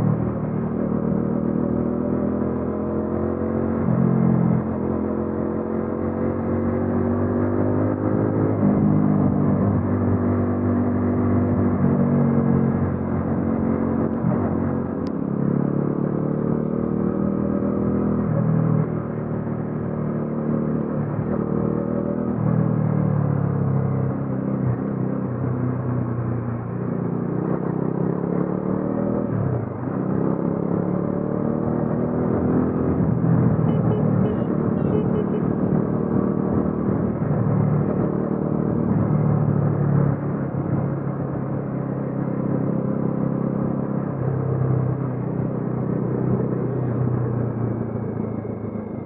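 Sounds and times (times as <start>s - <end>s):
motorcycle engine accelerating: 0.0s - 49.0s.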